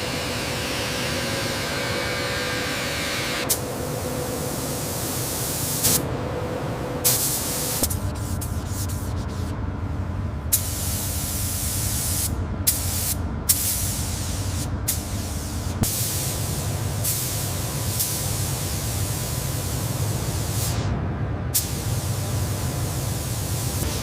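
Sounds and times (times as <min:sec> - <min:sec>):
low constant hum: 0:03.4 - 0:24.0.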